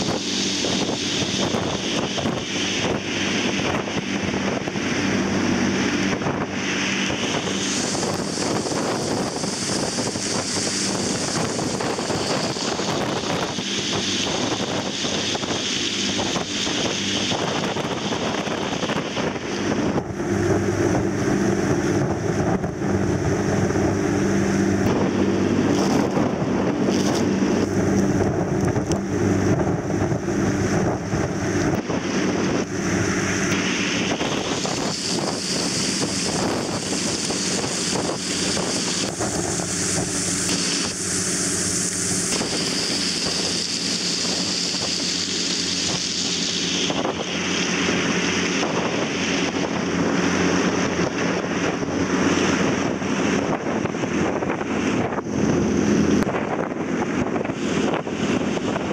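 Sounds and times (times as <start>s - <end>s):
boat engine hum: 0.0s - 58.9s
rushing wake water: 0.0s - 58.9s
wind buffeting microphone: 0.0s - 58.9s.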